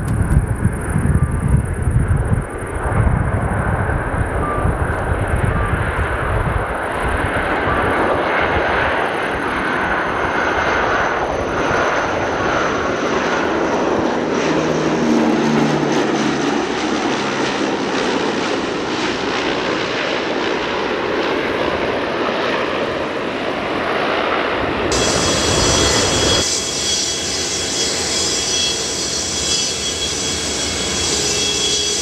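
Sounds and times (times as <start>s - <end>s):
turboprop aircraft engines: 0.0s - 32.0s.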